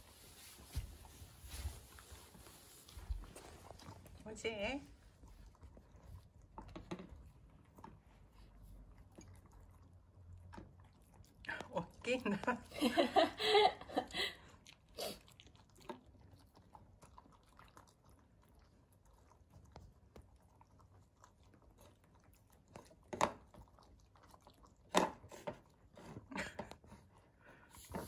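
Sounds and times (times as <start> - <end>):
dog chewing and licking: 0.1 - 12.7, 14.4 - 28.0.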